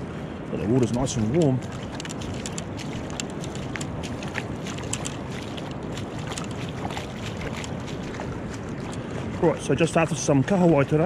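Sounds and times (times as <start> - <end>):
wind on microphone: 0.0 - 9.6
feet wading through shallow water: 0.0 - 11.0.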